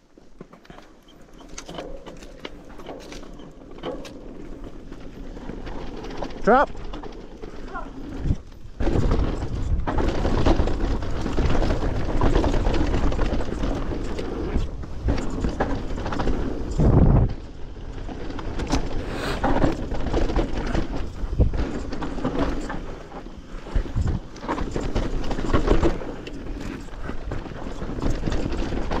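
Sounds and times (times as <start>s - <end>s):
bike rattling and clacking: 0.1s - 29.0s.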